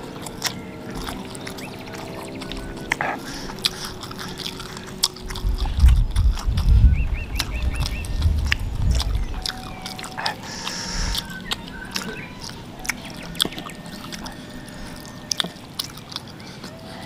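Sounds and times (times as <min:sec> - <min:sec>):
wet chewing smacks and clicks: 0:00.0 - 0:17.0.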